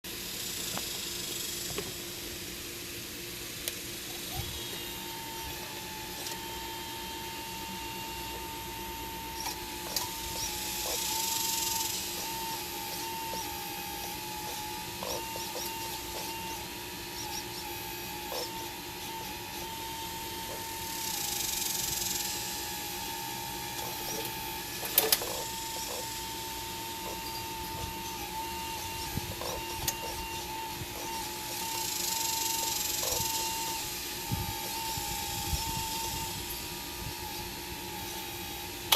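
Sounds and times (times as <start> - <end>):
high steady whine: 0.1 - 38.9
hydraulic pump humming: 0.1 - 38.9.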